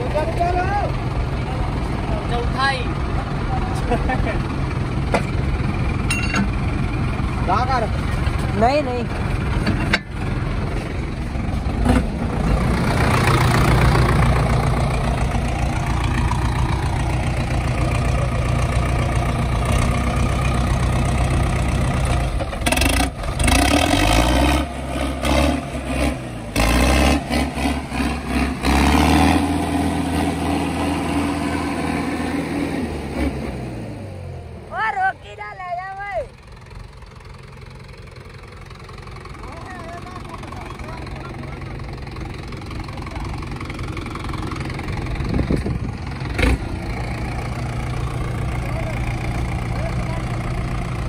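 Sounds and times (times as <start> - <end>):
diesel tractor engines revving: 0.0 - 51.0.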